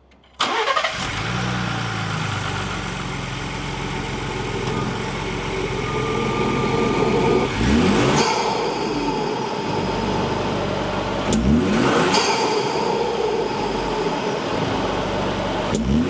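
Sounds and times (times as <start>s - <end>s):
car engine idling and revving: 0.4s - 16.0s.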